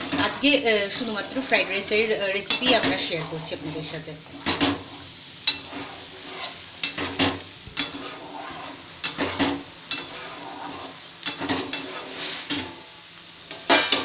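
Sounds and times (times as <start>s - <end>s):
steel spatula scraping pan: 0.0s - 12.8s.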